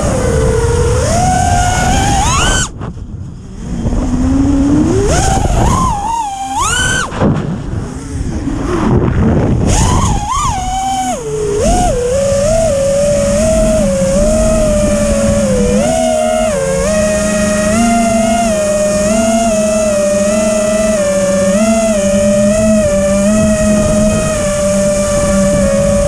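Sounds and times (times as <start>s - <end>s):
quadcopter motors whining: 0.0s - 26.0s
rough rushing noise: 0.0s - 26.0s.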